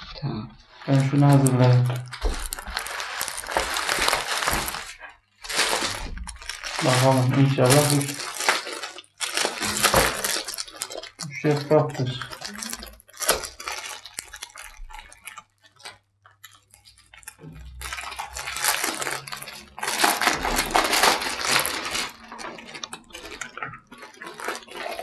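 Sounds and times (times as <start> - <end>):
plastic and paper rustling: 0.1 - 25.0.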